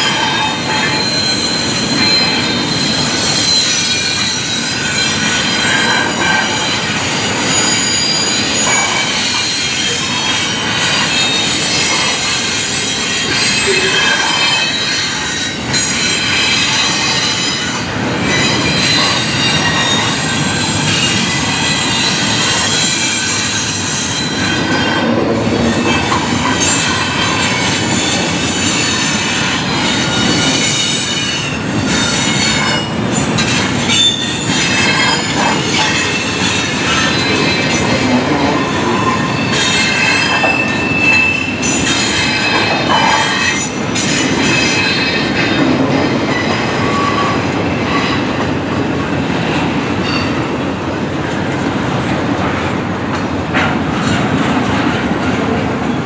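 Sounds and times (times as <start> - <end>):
high-pitched wheel squeal: 0.0 - 48.4
steel wheels rumbling on rail: 0.0 - 56.0.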